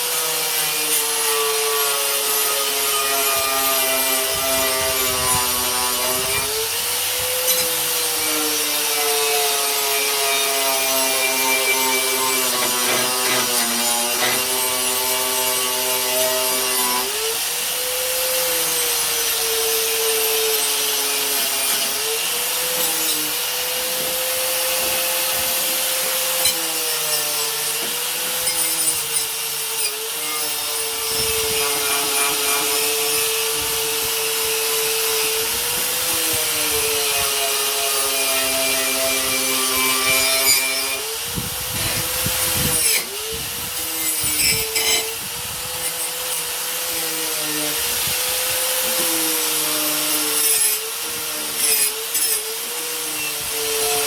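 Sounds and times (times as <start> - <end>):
power tool grinding metal: 0.0 - 54.0.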